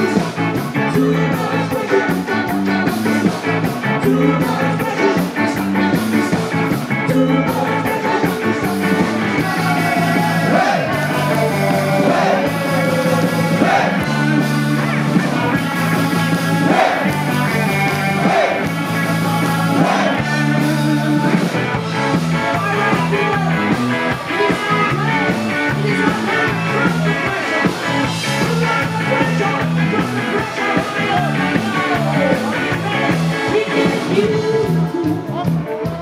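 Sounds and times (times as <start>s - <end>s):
bass guitar: 0.0s - 36.0s
drums on a steady beat: 0.0s - 36.0s
electric guitar: 0.0s - 36.0s
person singing: 0.0s - 36.0s.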